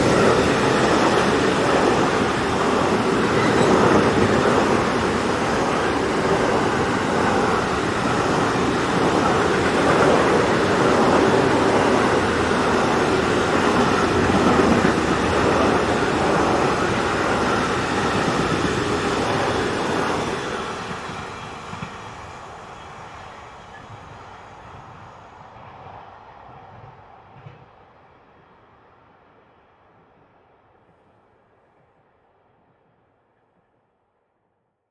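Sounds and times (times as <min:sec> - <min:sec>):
freight train rolling on rails: 0:00.0 - 0:28.5.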